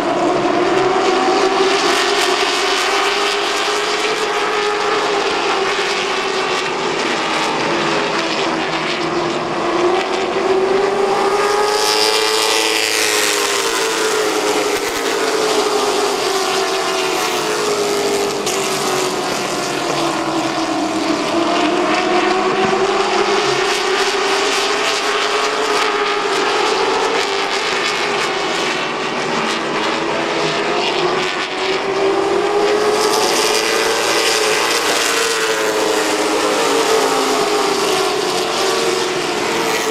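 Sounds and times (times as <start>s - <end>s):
racing car engines passing: 0.0s - 39.9s.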